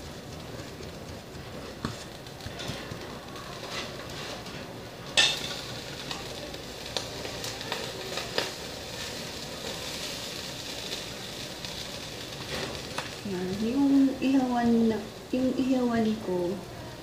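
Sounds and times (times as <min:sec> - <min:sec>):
meat sizzling over fire: 0:00.0 - 0:17.0.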